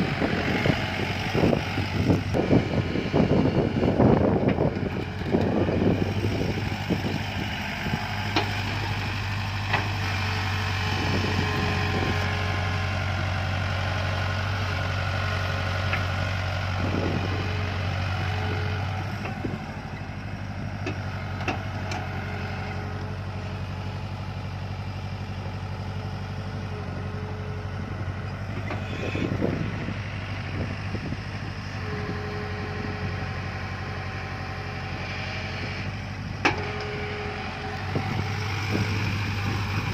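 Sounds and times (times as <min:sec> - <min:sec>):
diesel engine digging: 0:00.0 - 0:39.9.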